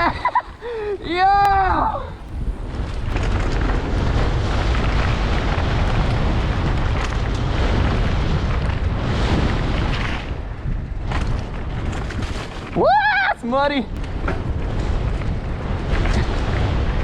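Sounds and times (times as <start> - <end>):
tyre and trail noise: 0.0 - 17.0
wind rushing over microphone: 0.0 - 17.0.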